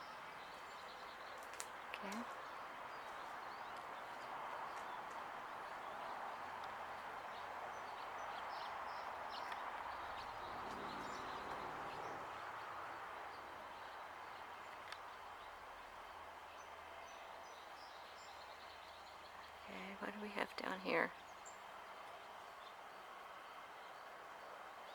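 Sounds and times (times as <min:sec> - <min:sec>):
outdoor background noise: 0:00.0 - 0:24.9.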